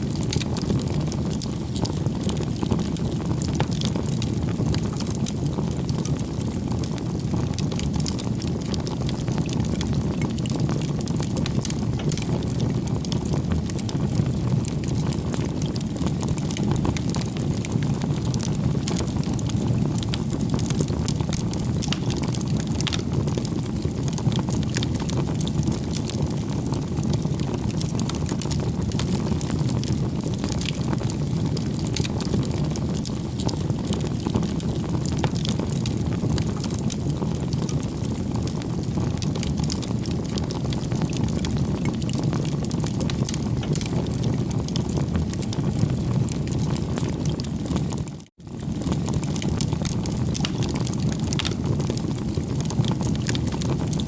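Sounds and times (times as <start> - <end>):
fire crackling and popping: 0.0 - 54.0
rush of flames: 0.0 - 54.0.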